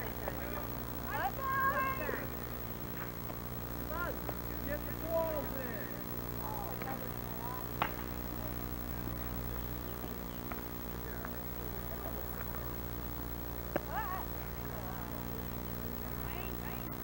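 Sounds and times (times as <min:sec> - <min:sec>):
low camcorder hum: 0:00.0 - 0:17.0.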